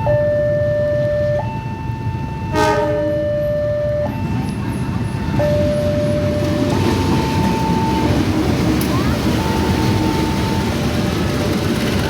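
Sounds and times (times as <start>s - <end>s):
level crossing two-tone alarm: 0.0s - 12.0s
passing train rumble: 0.0s - 12.0s.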